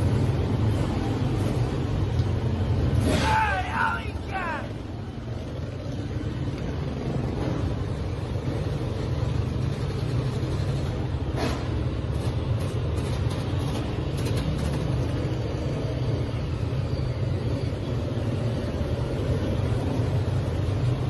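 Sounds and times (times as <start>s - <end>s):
dirt bike engines running: 0.0s - 21.0s.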